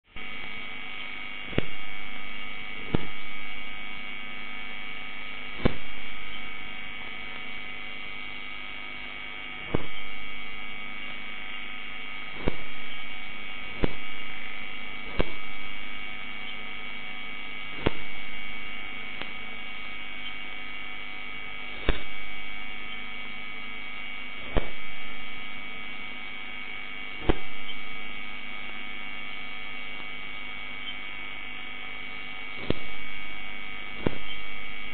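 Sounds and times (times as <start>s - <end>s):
electrical hum: 0.1s - 34.9s
sharp electrical ticks: 0.1s - 34.9s.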